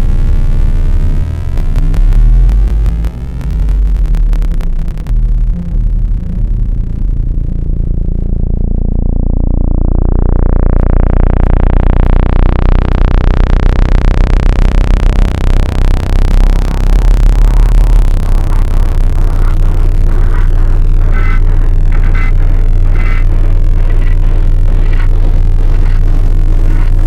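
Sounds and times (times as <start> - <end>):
low electronic buzzing hum: 0.0 - 27.0.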